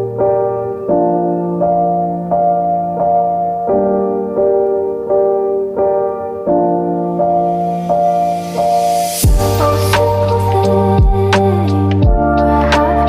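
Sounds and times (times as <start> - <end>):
keyboard chords: 0.0 - 13.0.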